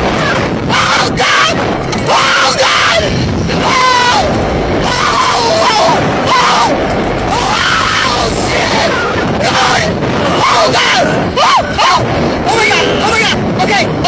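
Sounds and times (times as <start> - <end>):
wind buffeting microphone: 0.0 - 14.0
people screaming: 0.1 - 13.4.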